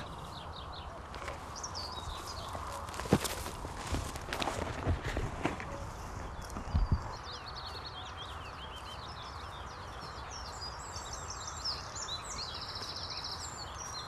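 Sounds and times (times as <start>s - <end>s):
outdoor background rumble and hiss: 0.0s - 14.0s
songbirds singing: 0.0s - 14.0s.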